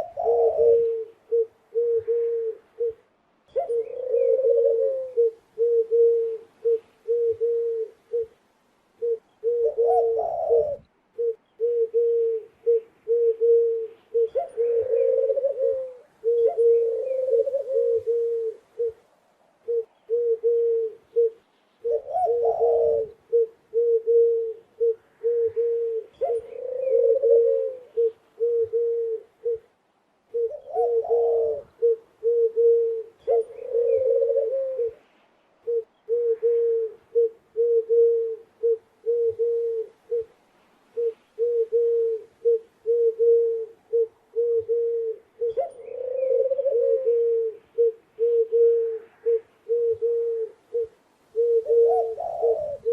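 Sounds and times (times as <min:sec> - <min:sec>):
doves cooing: 0:00.0 - 0:08.4, 0:09.0 - 0:29.7, 0:30.3 - 0:52.9.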